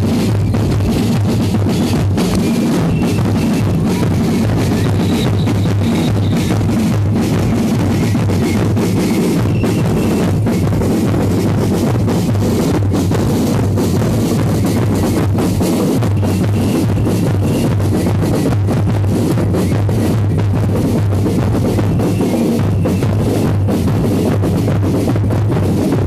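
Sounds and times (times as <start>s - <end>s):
bass drum and snare beat: 0.0s - 26.0s.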